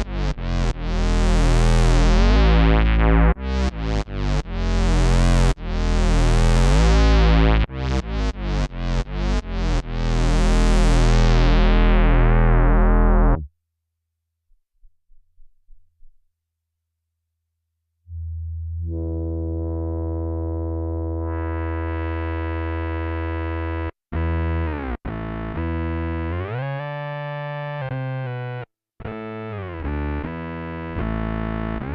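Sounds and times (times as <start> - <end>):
synth bass guitar notes: 0.0 - 13.5, 18.1 - 31.9.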